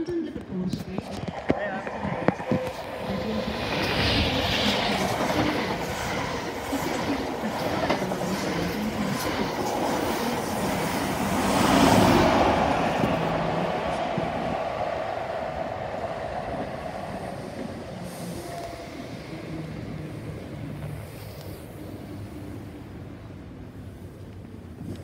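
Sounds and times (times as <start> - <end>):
train wheels rumbling and clattering: 0.0 - 21.6.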